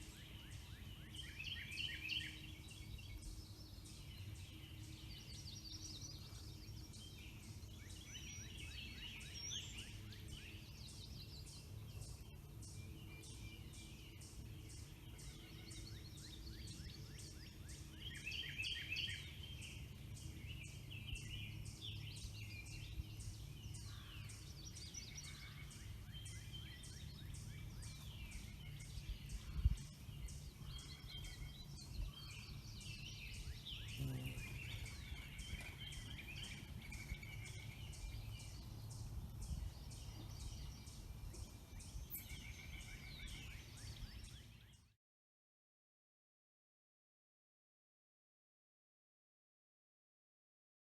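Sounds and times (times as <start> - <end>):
steady low hum: 0.0 - 44.3
songbirds singing: 0.0 - 45.0.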